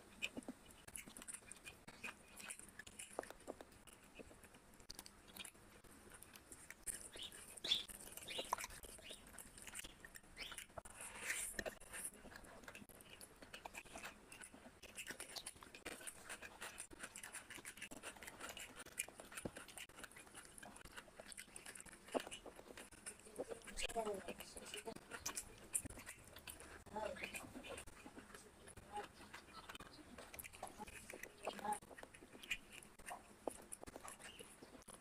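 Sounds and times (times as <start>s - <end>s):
person chewing food: 0.0s - 35.0s.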